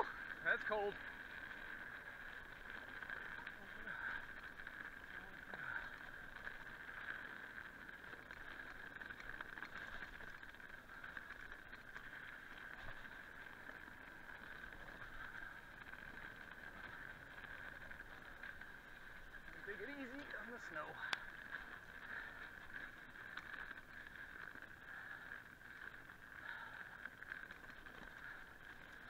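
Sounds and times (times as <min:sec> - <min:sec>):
bike rattles: 0:00.0 - 0:29.0
tyres on dirt: 0:00.0 - 0:29.0.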